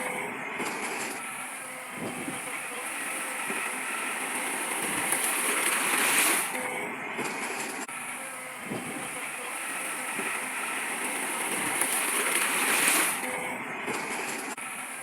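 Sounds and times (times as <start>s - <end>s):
heavy earthmoving machinery: 0.0s - 15.0s.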